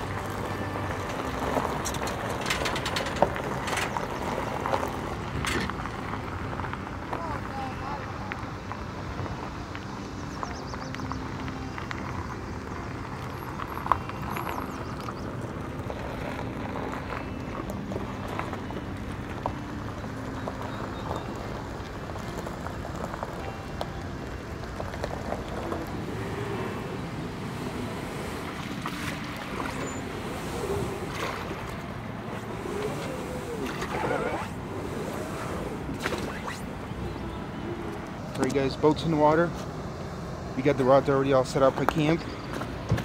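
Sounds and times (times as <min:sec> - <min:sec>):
water at river's edge: 0:00.0 - 0:43.0.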